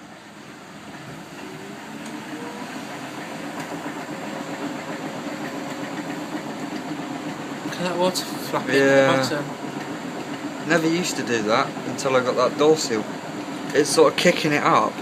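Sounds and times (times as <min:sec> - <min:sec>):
washing machine motor running: 0:00.0 - 0:15.0.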